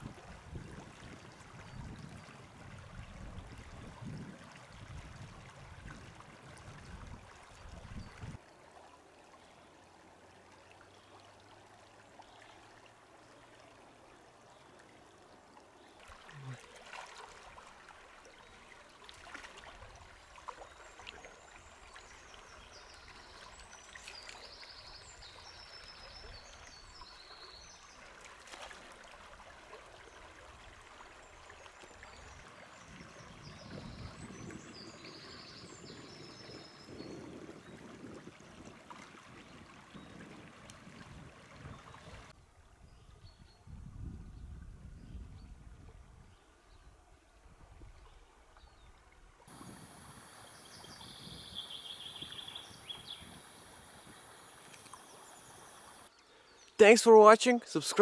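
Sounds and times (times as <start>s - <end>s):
shallow river flowing: 0.0s - 43.6s, 45.8s - 58.0s.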